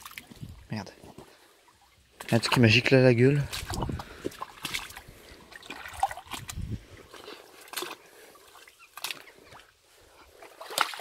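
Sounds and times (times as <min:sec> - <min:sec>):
footsteps through shallow river: 0:00.0 - 0:11.0
water sloshing: 0:00.0 - 0:11.0.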